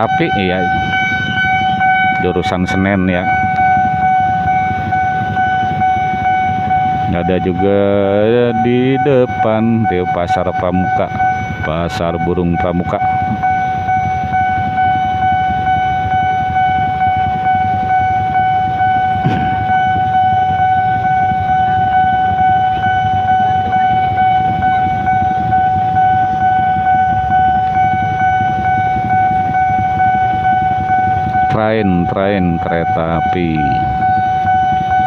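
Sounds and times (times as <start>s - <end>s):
level crossing warning tone: 0.0s - 35.0s
motorbikes idling: 0.0s - 35.0s.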